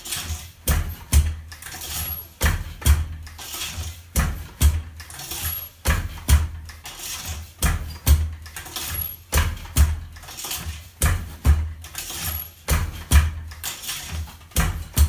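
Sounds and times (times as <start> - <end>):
loom beater double knock: 0.0 - 15.0.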